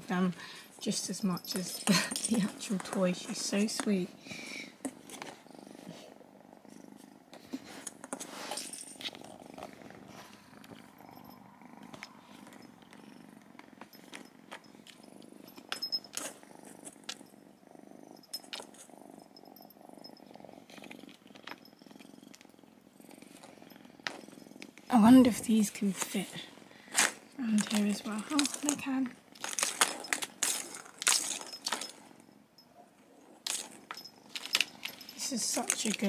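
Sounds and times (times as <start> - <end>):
kitten purring: 0.0 - 36.0.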